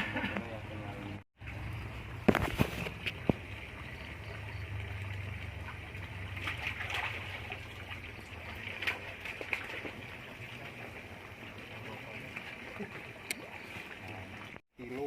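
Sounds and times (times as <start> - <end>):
water trickling and gurgling: 1.4 - 15.0.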